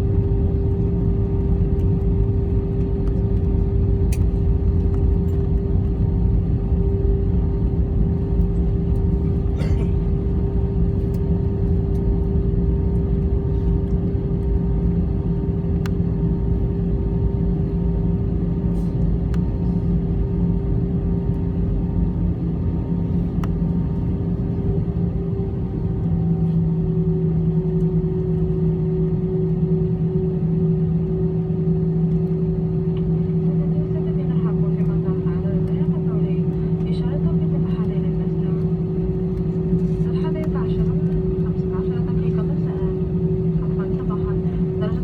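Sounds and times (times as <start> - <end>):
airliner engine drone: 0.0 - 45.0.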